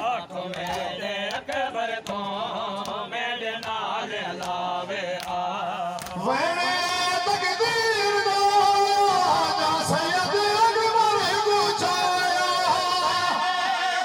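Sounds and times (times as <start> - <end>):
men chanting rhythmically: 0.0 - 14.0.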